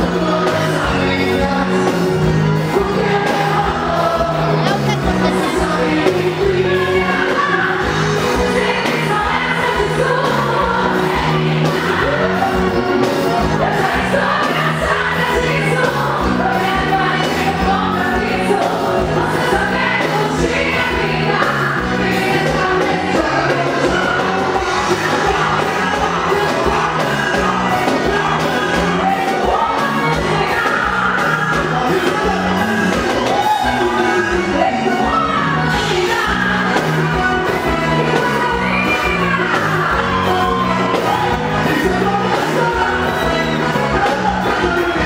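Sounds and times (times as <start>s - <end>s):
accordion: 0.0s - 45.0s
person singing: 0.0s - 45.0s
steady drum beat: 0.0s - 45.0s.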